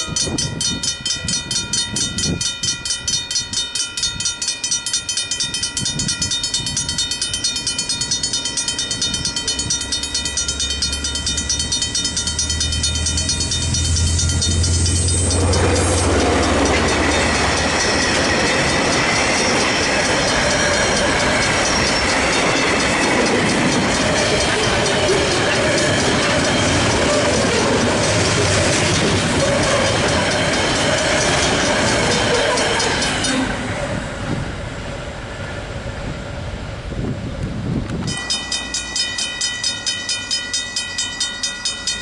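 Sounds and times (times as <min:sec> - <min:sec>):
level crossing bells ringing: 0:00.0 - 0:33.7, 0:38.0 - 0:42.0
train wagons rolling: 0:00.0 - 0:35.7
diesel train engine rumble: 0:00.0 - 0:42.0.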